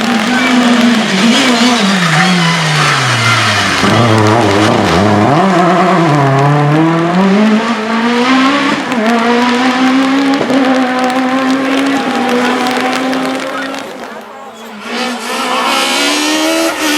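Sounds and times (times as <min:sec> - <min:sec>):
rally car engine revving: 0:00.0 - 0:16.9.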